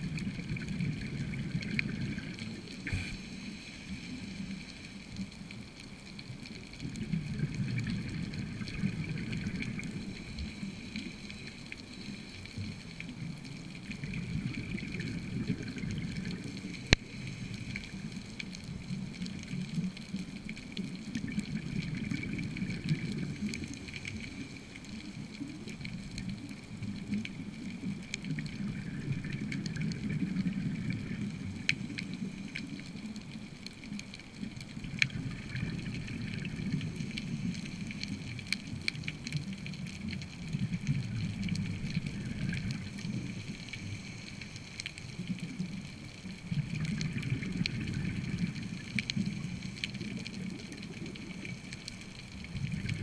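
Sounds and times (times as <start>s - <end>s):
low underwater rumble: 0.0s - 53.0s.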